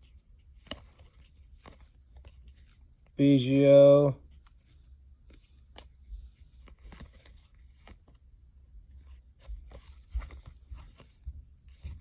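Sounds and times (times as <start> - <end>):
cards rustling and clicking: 0.0 - 3.2, 4.3 - 8.3, 9.0 - 12.0.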